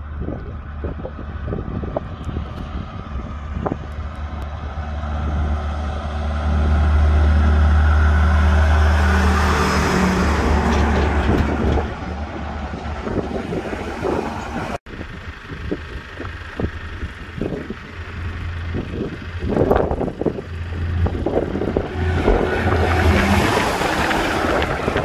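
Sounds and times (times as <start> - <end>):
tyre and wind noise: 0.0 - 6.8, 7.8 - 25.0
diesel truck engine drone: 0.0 - 25.0.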